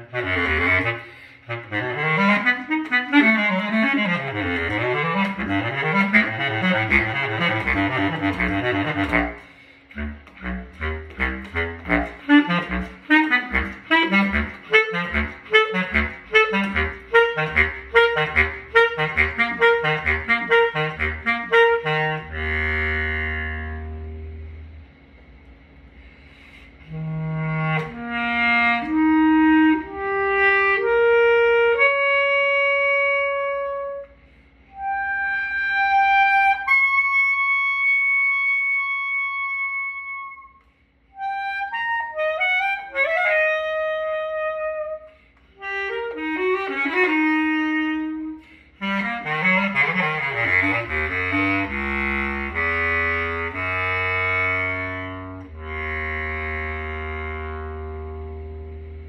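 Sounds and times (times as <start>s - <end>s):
bass clarinet playing: 0.0s - 25.0s, 26.0s - 59.0s.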